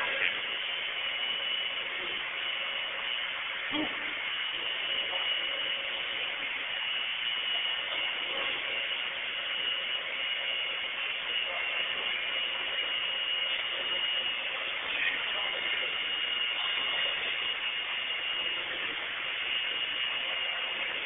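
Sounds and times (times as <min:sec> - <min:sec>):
machinery drone with high whine: 0:00.0 - 0:21.0.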